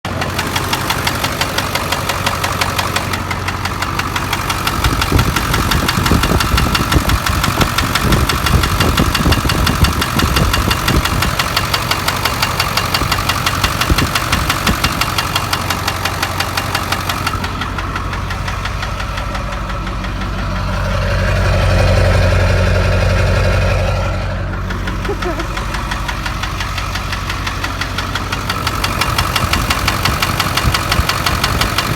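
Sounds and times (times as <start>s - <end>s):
diesel engine knocking: 0.0s - 31.9s.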